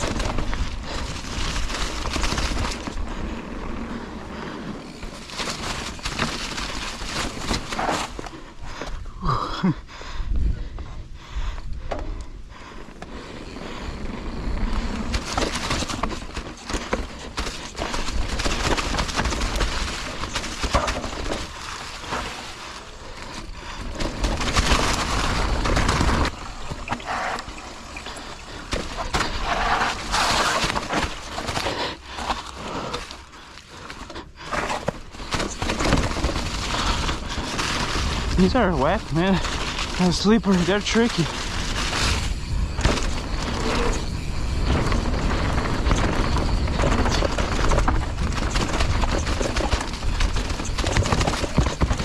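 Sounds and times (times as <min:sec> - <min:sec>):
bike knocks and rattles: 0:00.0 - 0:09.0, 0:13.0 - 0:52.0
bike tyres skidding over dirt: 0:00.0 - 0:09.5, 0:12.5 - 0:52.0.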